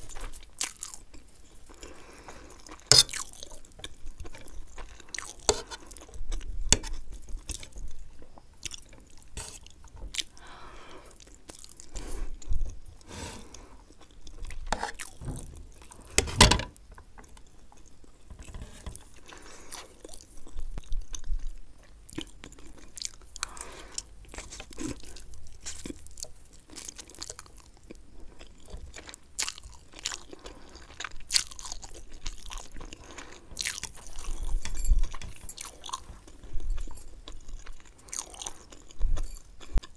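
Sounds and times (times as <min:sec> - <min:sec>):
wet chewing of noodles: 0:00.0 - 0:16.2, 0:17.2 - 0:39.9.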